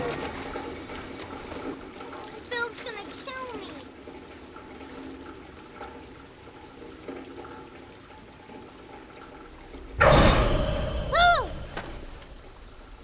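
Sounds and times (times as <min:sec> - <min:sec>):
heavy rain on street: 0:00.0 - 0:13.0
water streaming into drain: 0:00.0 - 0:13.0.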